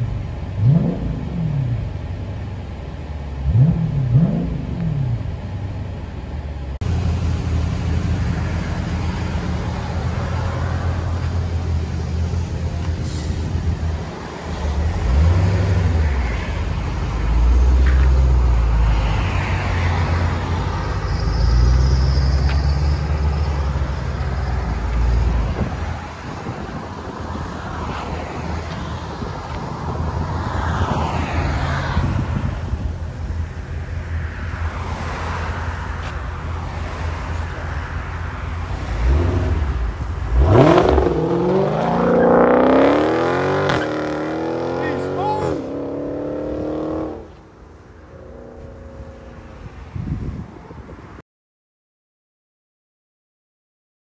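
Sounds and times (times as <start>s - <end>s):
car engine revving: 0.2s - 2.5s, 3.3s - 5.8s, 6.8s - 47.5s.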